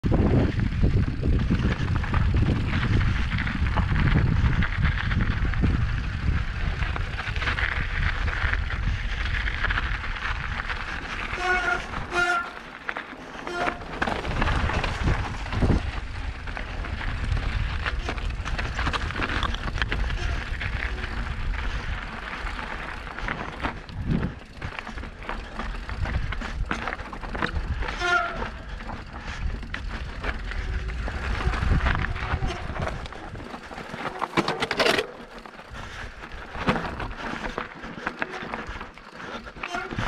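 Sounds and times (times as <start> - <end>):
wind buffeting microphone: 0.0 - 12.2, 13.7 - 40.0
bike tyres rumbling: 0.0 - 40.0
bike rattling over rock: 0.1 - 40.0.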